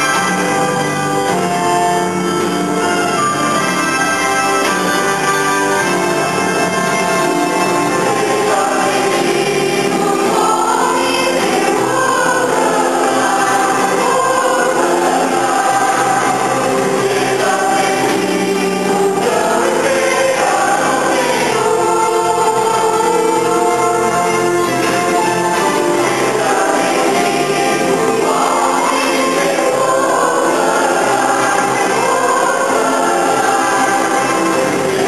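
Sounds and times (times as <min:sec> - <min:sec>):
mixed choir singing: 0:00.0 - 0:35.0.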